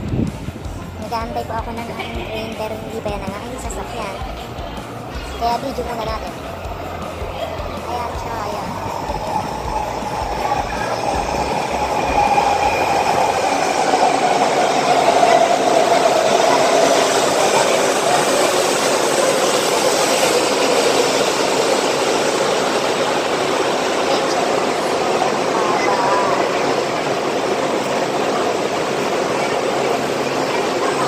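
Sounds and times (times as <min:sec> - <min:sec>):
train pulling in: 0:00.0 - 0:31.0.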